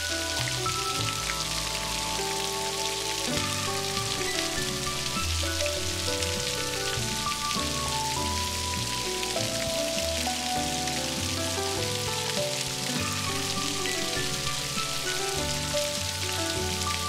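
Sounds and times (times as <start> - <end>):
soft slow instrumental music: 0.0 - 17.0
steady rain: 0.0 - 17.0.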